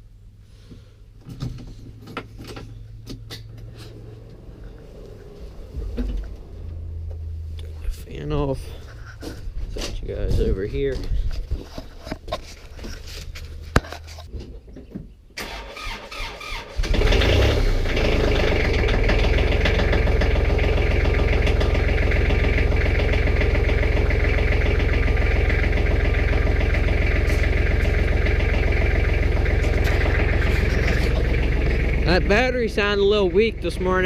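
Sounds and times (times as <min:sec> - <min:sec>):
diesel tractor engine starting and idling: 0:01.0 - 0:11.6, 0:15.4 - 0:34.0.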